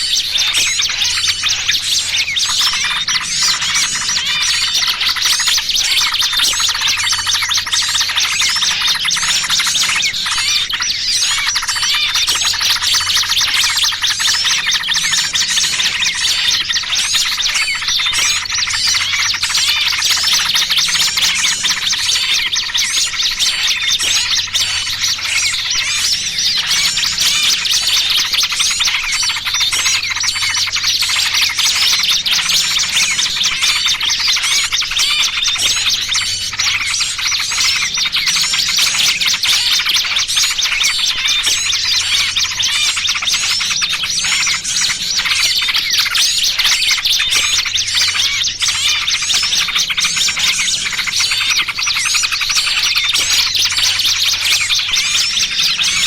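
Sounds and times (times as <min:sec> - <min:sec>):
bird distress calls: 0:00.0 - 0:56.0
bulbul chatter: 0:00.0 - 0:56.0
small birds chirping: 0:00.0 - 0:56.0.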